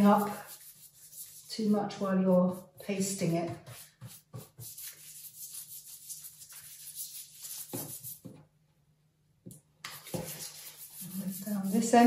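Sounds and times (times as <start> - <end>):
brush swishing on wet paper: 0.0 - 8.3, 9.9 - 12.0.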